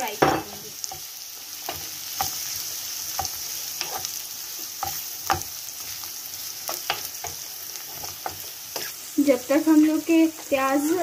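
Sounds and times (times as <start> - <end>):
onions sizzling in hot oil: 0.0 - 11.0
wooden spoon scraping a pan: 1.6 - 11.0.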